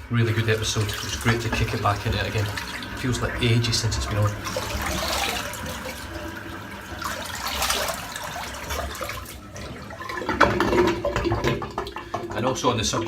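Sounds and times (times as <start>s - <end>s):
tap running into sink: 0.3s - 12.7s
clatters and splashes: 0.5s - 13.0s.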